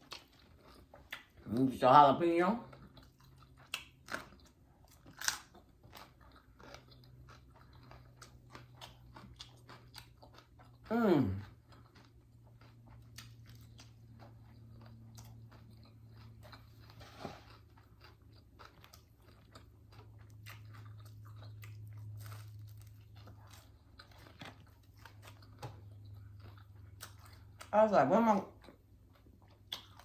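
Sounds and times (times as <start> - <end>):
person chewing food: 0.0 - 2.0, 2.6 - 30.0
faint low hum: 0.0 - 30.0.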